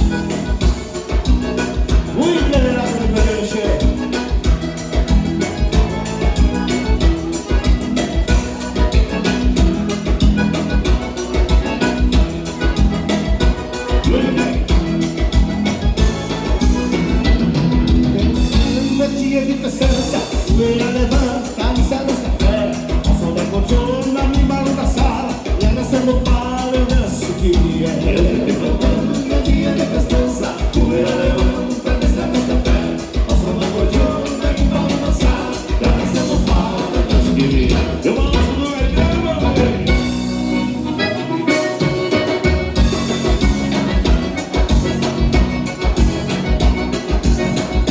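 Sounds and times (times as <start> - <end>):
band playing dance music: 0.0 - 47.9.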